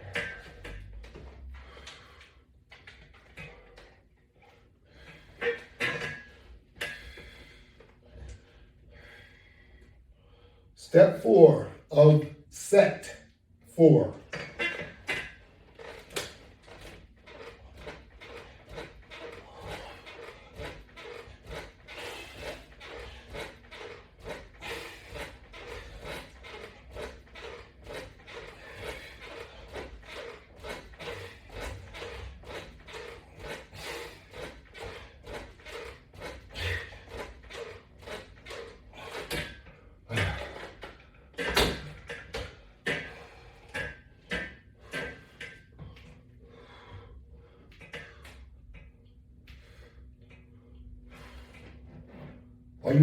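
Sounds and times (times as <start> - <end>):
rhythmic knocks of exercise rig: 0.0 - 10.0, 10.8 - 53.0.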